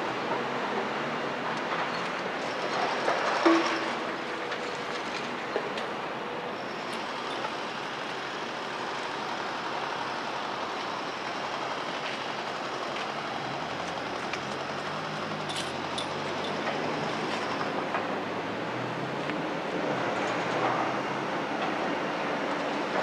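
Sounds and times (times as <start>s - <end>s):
heavy diesel machinery working: 0.0s - 23.0s.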